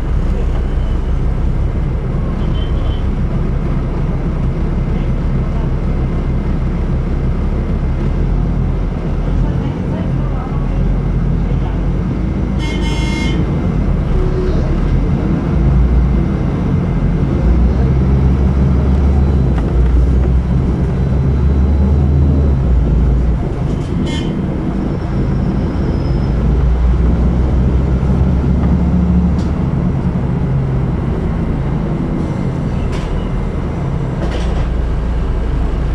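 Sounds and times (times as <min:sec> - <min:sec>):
bus engine rumble: 0:00.0 - 0:35.9
road noise: 0:00.0 - 0:35.9.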